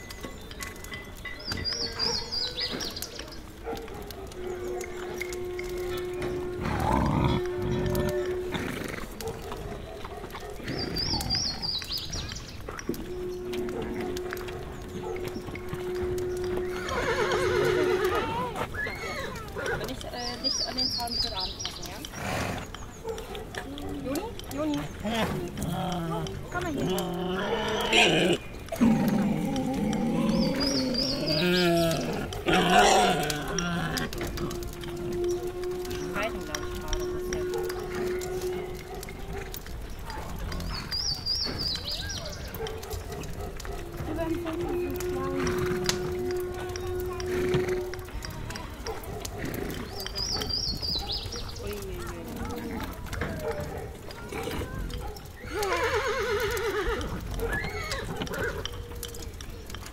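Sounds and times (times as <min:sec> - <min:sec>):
birds chirping: 0:00.0 - 0:59.9
scattered clicks: 0:00.0 - 0:59.9
voices: 0:00.0 - 0:59.9
farm animal calls: 0:01.5 - 0:59.9.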